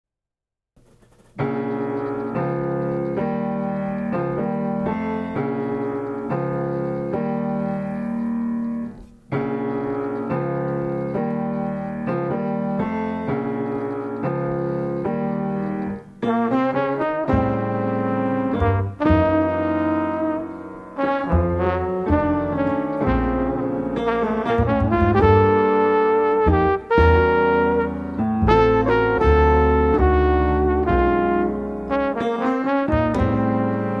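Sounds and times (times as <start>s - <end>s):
slow jazz piano chords: 1.2s - 34.0s.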